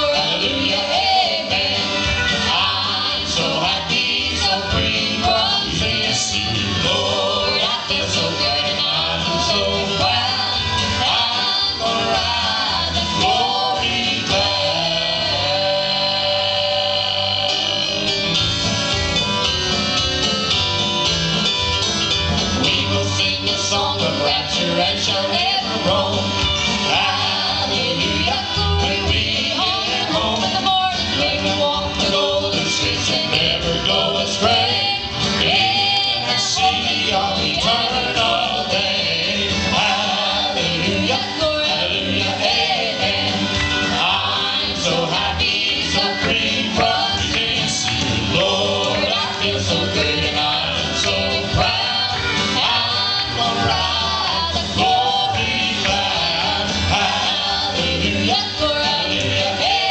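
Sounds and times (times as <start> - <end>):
country-style instrumental accompaniment: 0.0 - 59.9
gospel group singing: 0.0 - 59.9.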